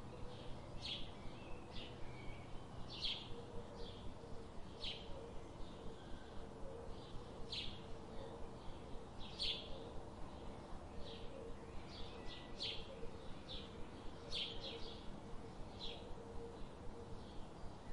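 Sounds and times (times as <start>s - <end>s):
faint steady hum: 0.0s - 17.9s.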